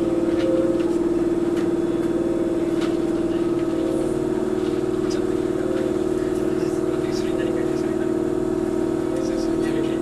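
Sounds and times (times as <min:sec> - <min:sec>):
train motor and wheel noise: 0:00.0 - 0:10.0.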